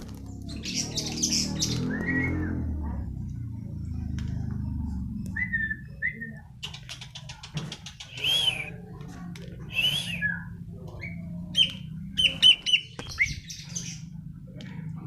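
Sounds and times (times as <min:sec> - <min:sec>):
bird chirping: 0:00.1 - 0:02.7, 0:04.0 - 0:09.0, 0:09.6 - 0:14.3.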